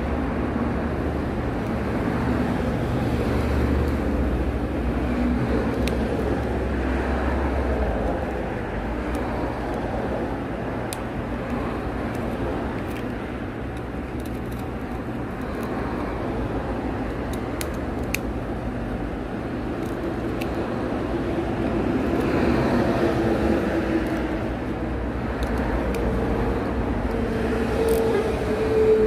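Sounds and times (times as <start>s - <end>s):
droning hum: 0.0s - 29.0s.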